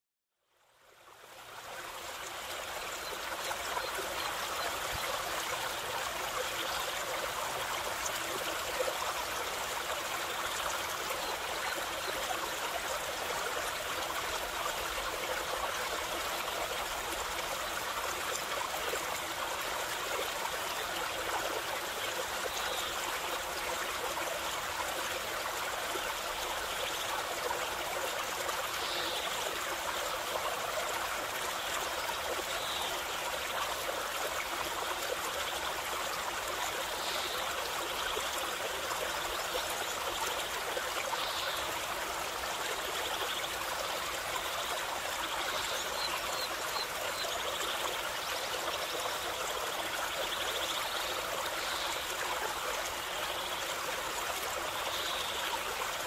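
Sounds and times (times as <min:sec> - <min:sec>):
stream rushing over stones: 0:00.8 - 0:56.0.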